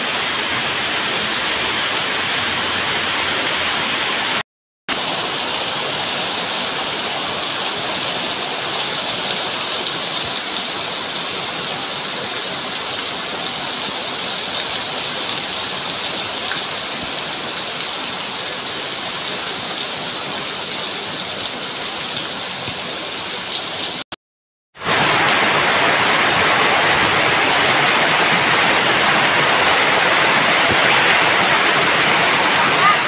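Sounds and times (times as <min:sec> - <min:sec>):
heavy rain on gravel: 0:00.0 - 0:24.0, 0:24.8 - 0:33.0.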